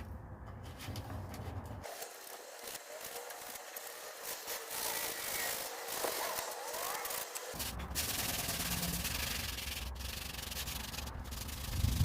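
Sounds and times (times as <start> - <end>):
sandpaper scraping wood: 1.8 - 12.0.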